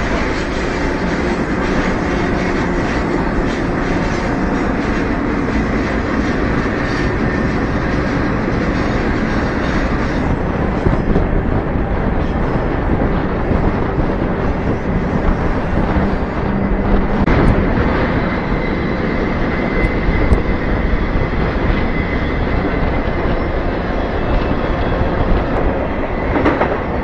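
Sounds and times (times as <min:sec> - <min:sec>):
freight train rumbling: 0:00.0 - 0:27.0
wind on microphone: 0:00.0 - 0:27.0.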